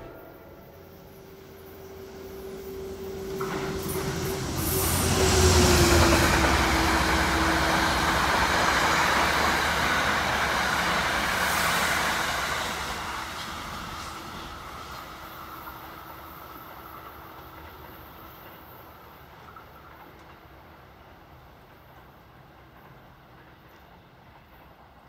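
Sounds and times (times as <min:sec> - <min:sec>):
passing train noise: 0:00.0 - 0:25.0.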